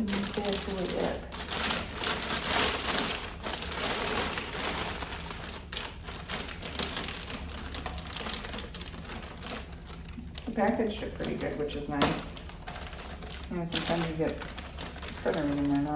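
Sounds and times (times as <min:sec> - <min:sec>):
packaging scrapes and rustles: 0:00.0 - 0:15.9.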